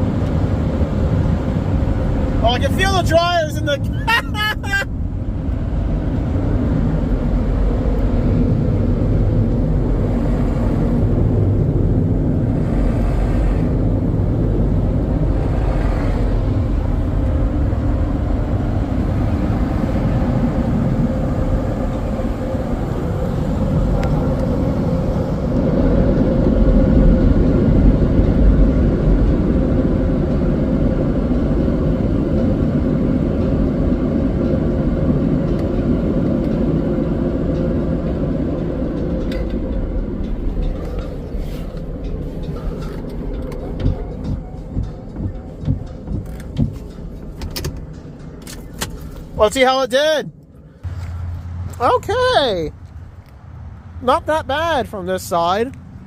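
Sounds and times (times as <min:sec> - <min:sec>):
car wash air dryers blowing: 0:00.0 - 0:56.0.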